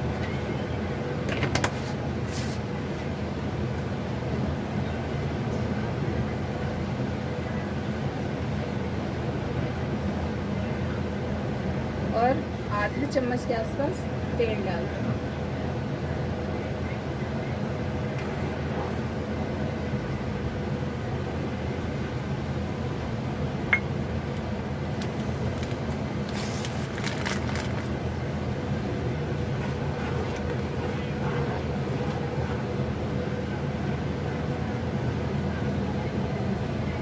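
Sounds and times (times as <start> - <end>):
low mechanical hum with hiss: 0.0 - 37.0.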